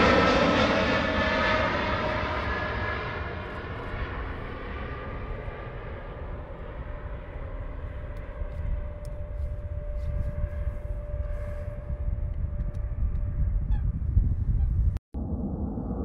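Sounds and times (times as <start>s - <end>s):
thin jet engine whine: 0.0s - 14.5s, 15.2s - 16.0s
jet engines deep rumble: 0.0s - 16.0s.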